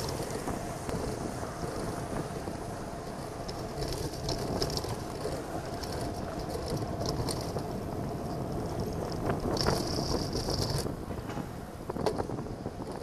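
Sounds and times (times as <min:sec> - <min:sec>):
road rumble: 0:00.0 - 0:13.0
wind rushing over microphone: 0:00.0 - 0:13.0.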